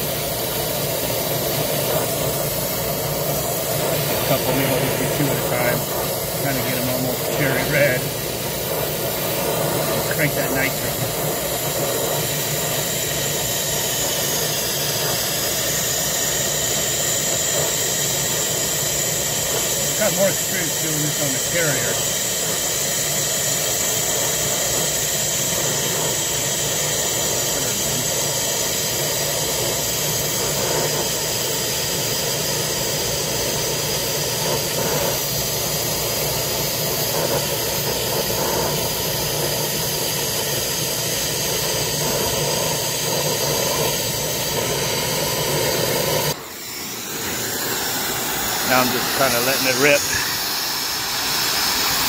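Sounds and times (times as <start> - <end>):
gas rushing hiss: 0.0 - 52.0.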